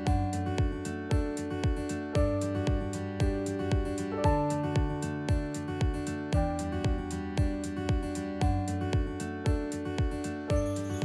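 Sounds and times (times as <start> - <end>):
music with steady beat: 0.0 - 11.0
plucked-string notes: 0.0 - 11.0.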